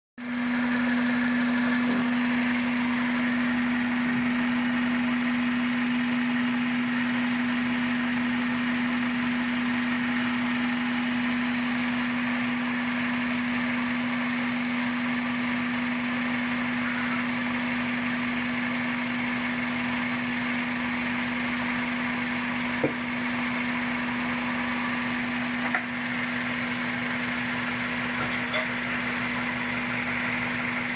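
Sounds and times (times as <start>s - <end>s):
car engine idling: 0.2s - 30.9s.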